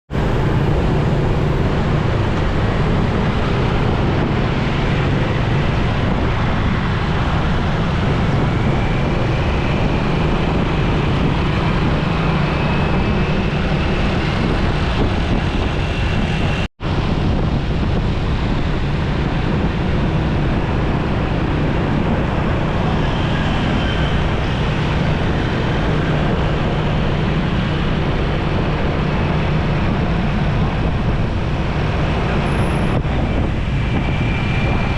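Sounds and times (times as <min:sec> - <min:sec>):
motorcycle engine hum: 0:00.1 - 0:34.9
road and wind noise: 0:00.1 - 0:34.9.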